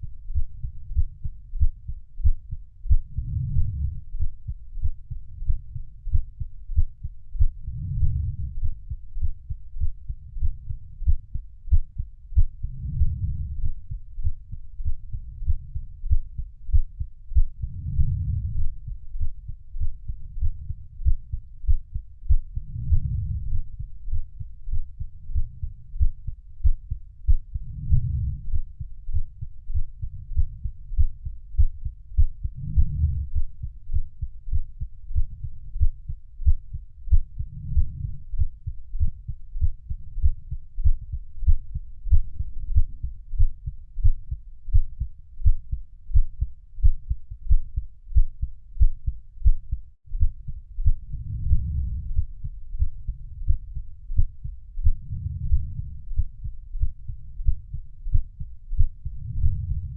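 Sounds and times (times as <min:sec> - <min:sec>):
soft low swell: 0:00.0 - 0:44.8, 0:45.4 - 0:59.9
heartbeat thumps: 0:00.0 - 0:59.9.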